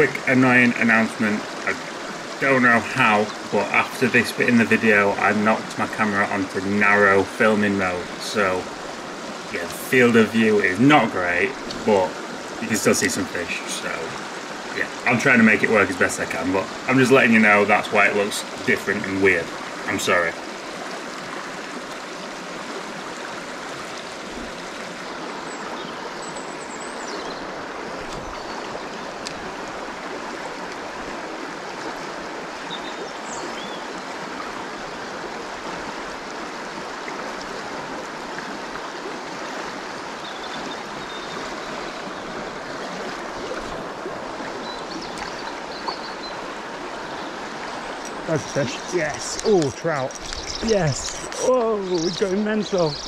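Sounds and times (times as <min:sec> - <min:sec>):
river water rushing over rocks: 0:00.0 - 0:53.0.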